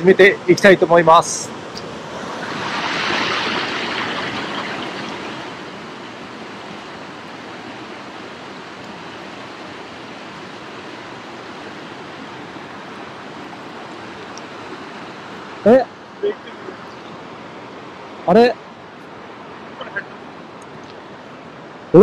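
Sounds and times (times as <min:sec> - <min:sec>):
stream water rushing over rocks: 0:00.0 - 0:22.0.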